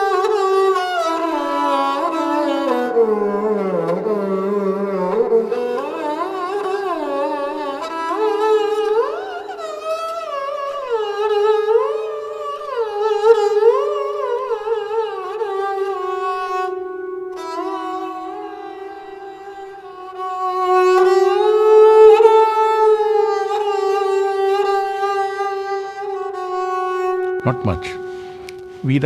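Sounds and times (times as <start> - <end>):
bowed sarangi gliding notes: 0.0 - 29.0.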